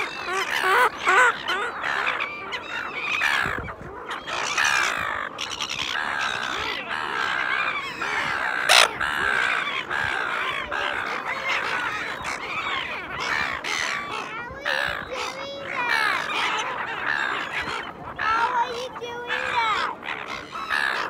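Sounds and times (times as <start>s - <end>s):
gulls squawking: 0.0s - 21.0s.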